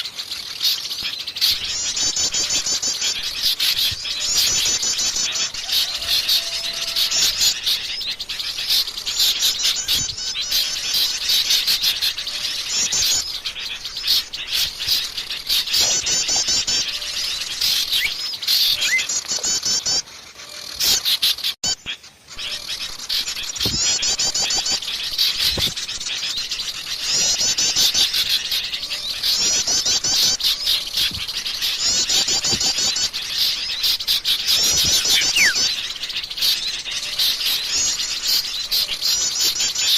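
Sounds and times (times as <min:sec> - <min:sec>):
many small birds calling: 0:00.0 - 0:39.9.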